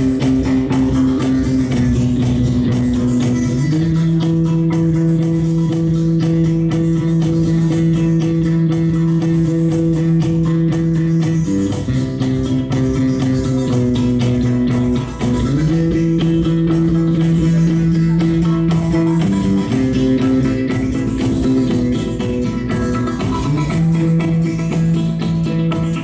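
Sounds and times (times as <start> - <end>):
electric bass droning notes: 0.0 - 26.0.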